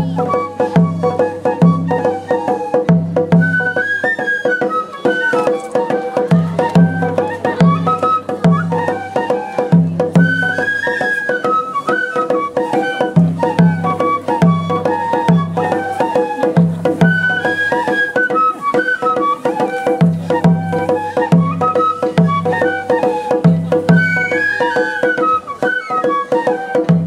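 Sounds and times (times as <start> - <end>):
taiko drum pattern: 0.0 - 27.0
transverse flutes melody: 0.0 - 27.0.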